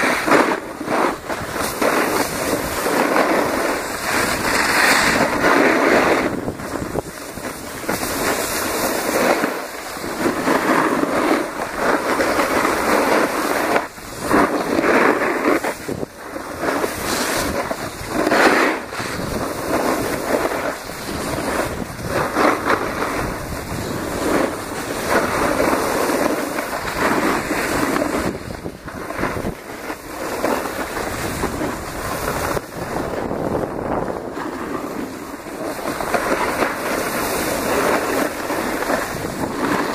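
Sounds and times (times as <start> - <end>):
skis carving over packed snow: 0.0 - 39.9
wind buffeting microphone: 0.0 - 39.9.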